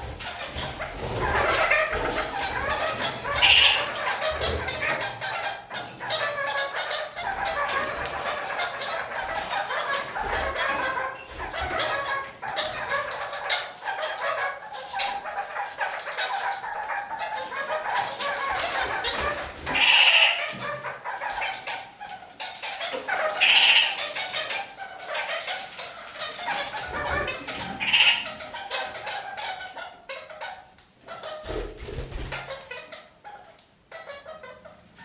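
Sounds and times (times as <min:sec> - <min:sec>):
loud sharp bird calls: 0:00.0 - 0:35.0
parakeets chattering: 0:00.0 - 0:35.0.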